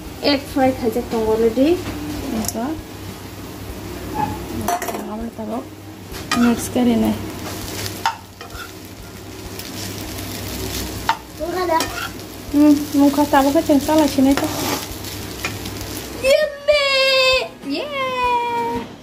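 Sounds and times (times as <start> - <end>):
noodles sizzling in a frying pan: 0.0 - 18.5.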